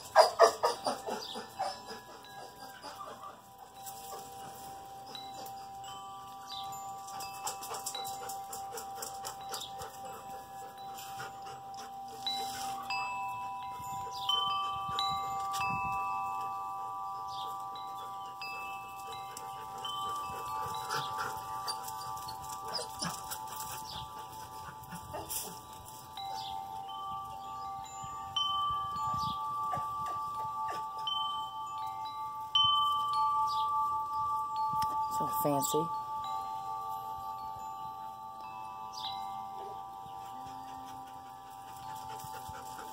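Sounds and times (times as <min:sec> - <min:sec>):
wind chimes ringing: 0:00.0 - 0:42.9.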